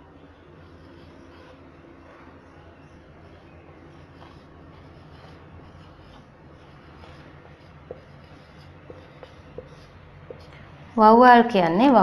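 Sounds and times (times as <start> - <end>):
low steady hum: 0.0 - 12.0
marker scratching on whiteboard: 0.2 - 10.6.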